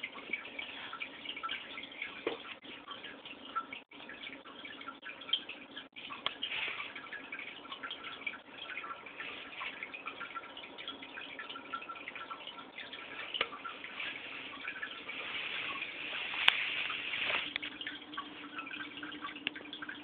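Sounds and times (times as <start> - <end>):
aquarium water bubbling: 0.0 - 20.0.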